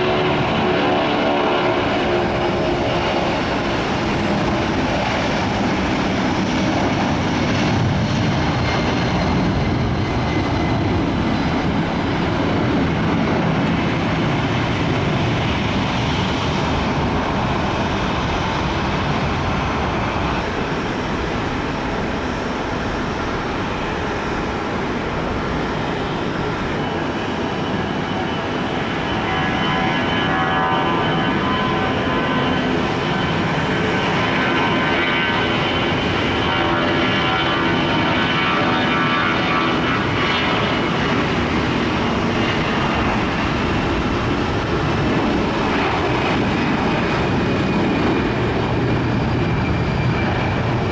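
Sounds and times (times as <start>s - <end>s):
airplane engines running: 0.0s - 50.9s.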